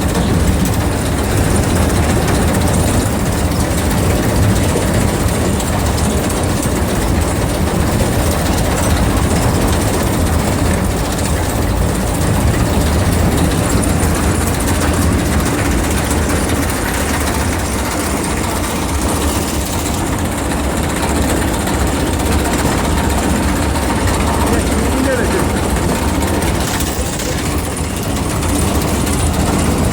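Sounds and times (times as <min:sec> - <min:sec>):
baling machine clattering: 0:00.0 - 0:29.9.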